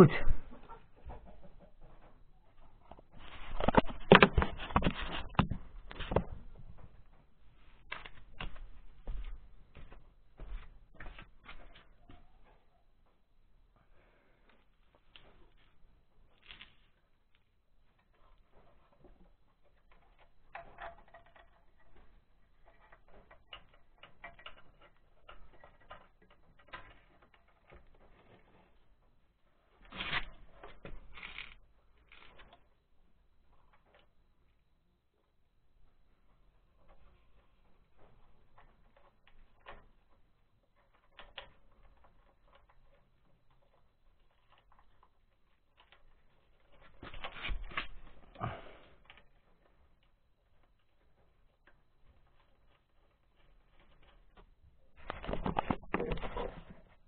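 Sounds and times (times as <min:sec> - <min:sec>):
faint clicks and metal taps: 0:00.6 - 0:57.0.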